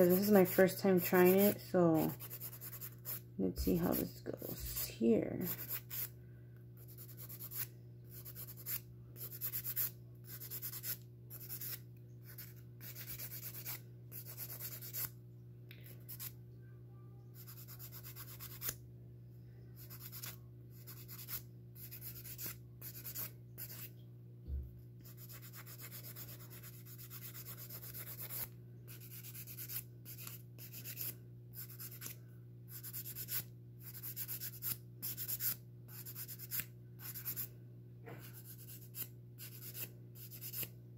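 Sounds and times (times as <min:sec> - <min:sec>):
nail file rasping on fingernails: 0:00.0 - 0:04.8, 0:05.4 - 0:06.1, 0:06.8 - 0:15.1, 0:17.4 - 0:18.8, 0:19.8 - 0:23.9, 0:25.0 - 0:37.5, 0:38.3 - 0:40.7.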